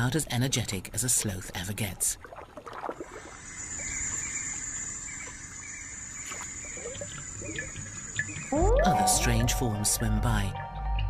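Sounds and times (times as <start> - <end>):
soft water sounds: 0.0 - 10.4.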